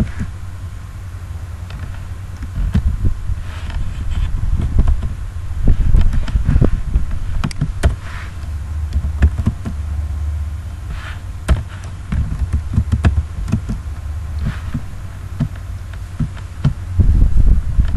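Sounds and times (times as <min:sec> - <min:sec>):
low microphone rumble: 0:00.0 - 0:17.9.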